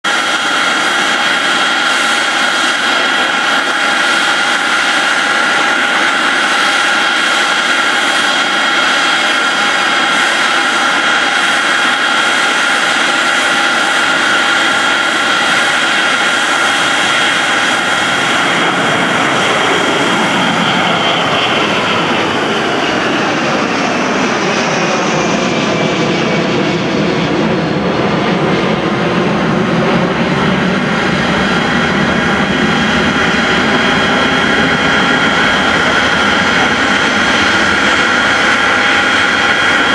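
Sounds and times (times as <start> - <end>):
jet engines at takeoff thrust: 0.0 - 39.9.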